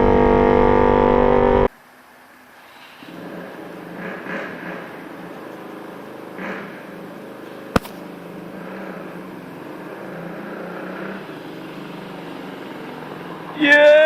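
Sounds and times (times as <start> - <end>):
distant vehicle engine hum: 2.3 - 14.0.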